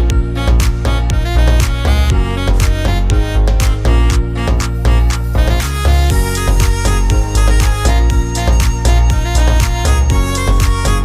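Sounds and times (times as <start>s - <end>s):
music with strings and heavy bass: 0.0s - 11.0s.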